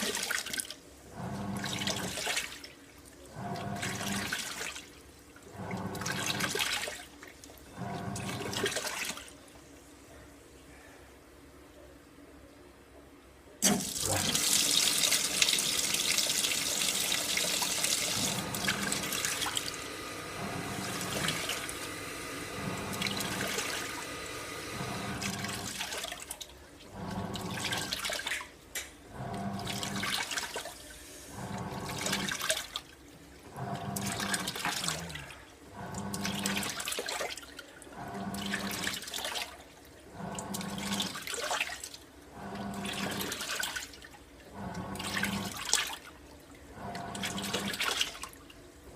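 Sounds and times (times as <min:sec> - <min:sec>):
washing machine motor hum: 0:00.0 - 0:09.4, 0:13.6 - 0:48.9
water rushing into tub: 0:00.0 - 0:09.4, 0:13.6 - 0:48.7.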